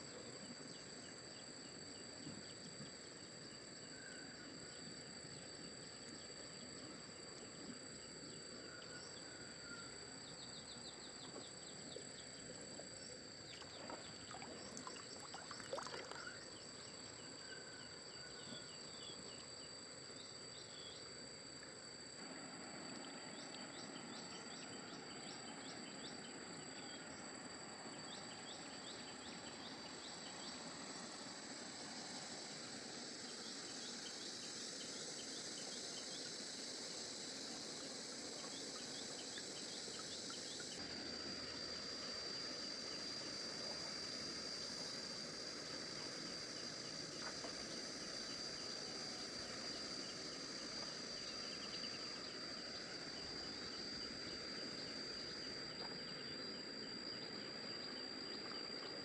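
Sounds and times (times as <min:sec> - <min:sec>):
insect drone: 0:00.0 - 0:59.0
insects chirping rapidly: 0:00.0 - 0:59.0.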